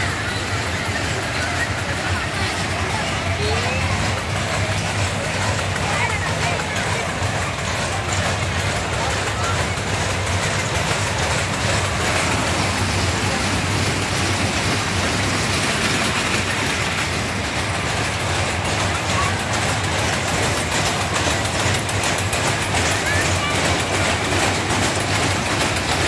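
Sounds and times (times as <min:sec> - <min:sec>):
crowd voices: 0:00.0 - 0:26.0
machinery hum and rumble: 0:00.0 - 0:26.0.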